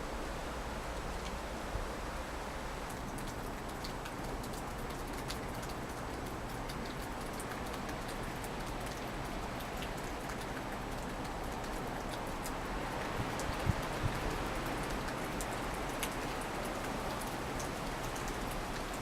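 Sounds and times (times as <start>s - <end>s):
raindrops ticking on surfaces: 0.0s - 19.0s
steady rain: 0.0s - 19.0s.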